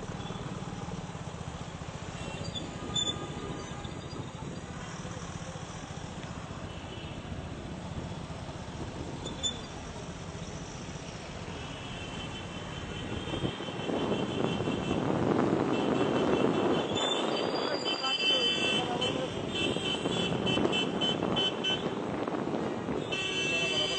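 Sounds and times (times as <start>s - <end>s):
vehicle engine: 0.0s - 23.9s.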